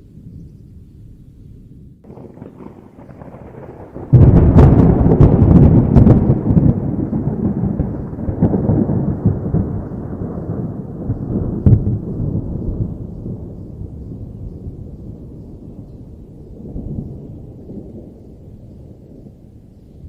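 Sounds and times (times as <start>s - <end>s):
rolling thunder rumble: 0.0s - 20.0s
sharp thunder cracks: 2.0s - 19.0s.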